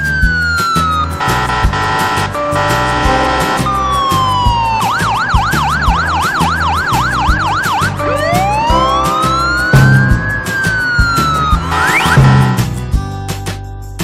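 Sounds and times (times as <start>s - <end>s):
background music with steady beat: 0.0s - 14.0s
cartoon siren wailing: 1.2s - 12.6s.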